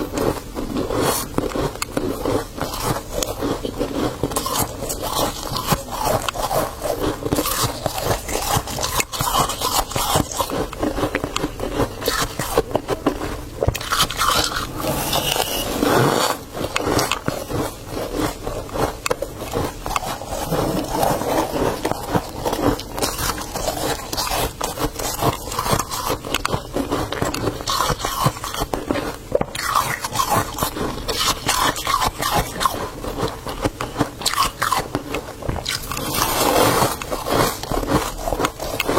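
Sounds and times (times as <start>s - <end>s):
freezer frost being scraped: 0.0s - 38.9s.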